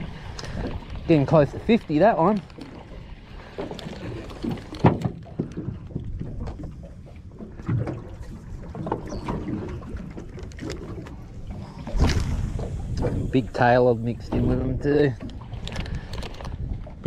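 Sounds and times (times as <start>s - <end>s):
low wind: 0.0s - 17.0s
water lapping around boat: 0.0s - 17.0s.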